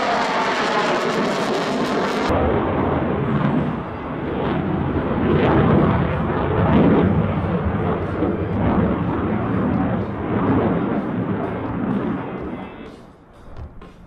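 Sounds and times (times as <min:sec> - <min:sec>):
fighter jet engine roar: 0:00.0 - 0:14.0.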